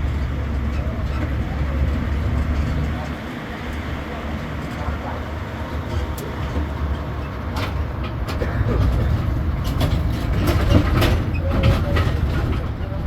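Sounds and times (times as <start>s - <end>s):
carriages rattling: 0.0s - 13.0s
road noise: 0.0s - 13.0s
road train engine rumble: 0.0s - 13.0s.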